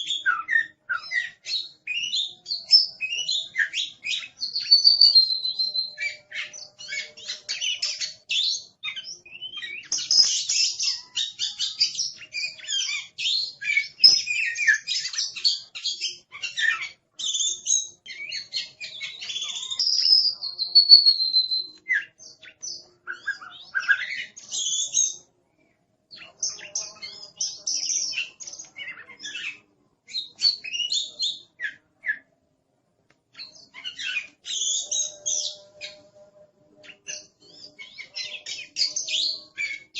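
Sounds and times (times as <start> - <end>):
bird singing chirps and trills: 0.0 - 25.3, 26.1 - 32.3, 33.3 - 39.9.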